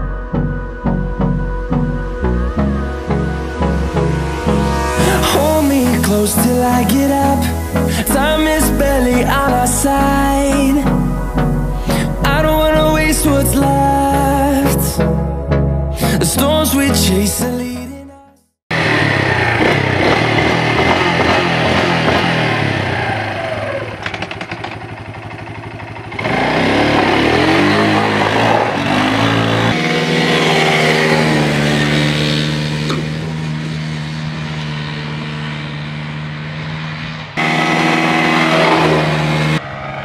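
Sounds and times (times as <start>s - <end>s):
atv engine revving: 2.4s - 14.9s, 18.7s - 40.0s.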